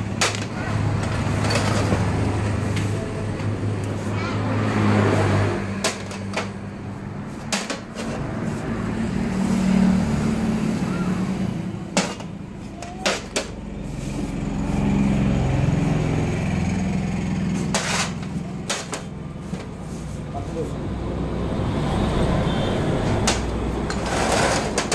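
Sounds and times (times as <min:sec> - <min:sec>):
low hum of road traffic: 0:00.0 - 0:24.9.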